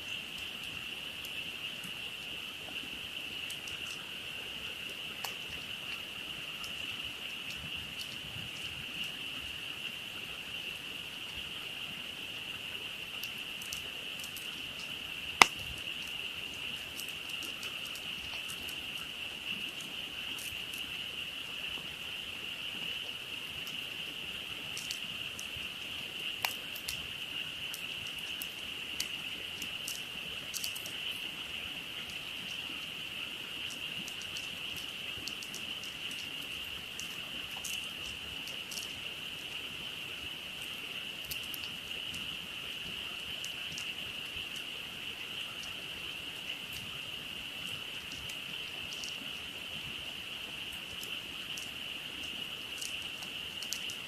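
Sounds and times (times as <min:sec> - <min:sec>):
campfire crackling and popping: 0:00.0 - 0:54.0
frogs trilling in chorus: 0:00.0 - 0:54.0.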